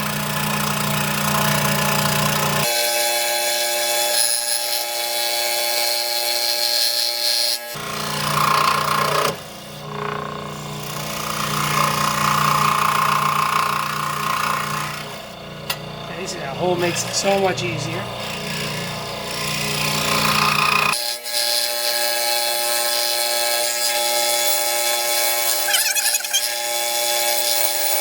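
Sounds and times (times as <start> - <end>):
scroll saw cutting wood: 0.0 - 28.0.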